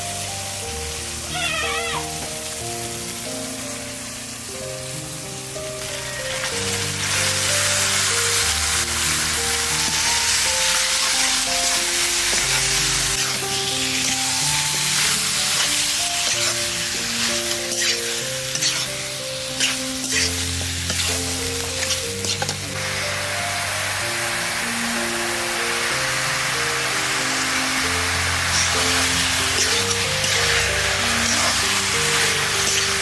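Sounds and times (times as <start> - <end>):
background music melody: 0.0 - 33.0
food sizzling in hot oil: 0.0 - 33.0.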